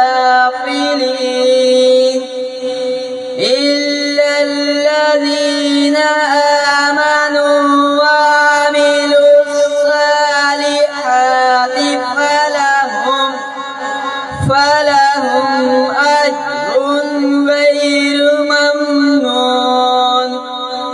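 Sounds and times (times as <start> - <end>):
boy chanting recitation: 0.0 - 20.9.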